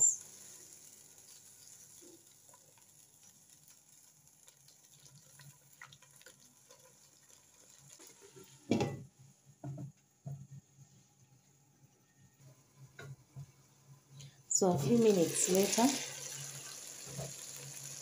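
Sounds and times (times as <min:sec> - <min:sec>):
food simmering in a pot: 0:00.0 - 0:18.0.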